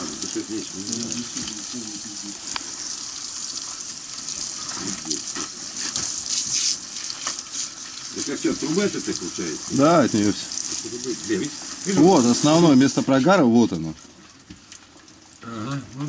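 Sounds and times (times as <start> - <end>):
hose water spraying on wood: 0.0 - 14.8.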